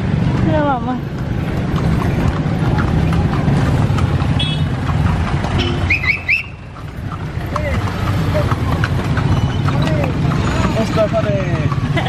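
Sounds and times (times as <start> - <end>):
traffic engines rumbling: 0.0 - 12.0
horse hooves clip-clopping: 0.1 - 12.0.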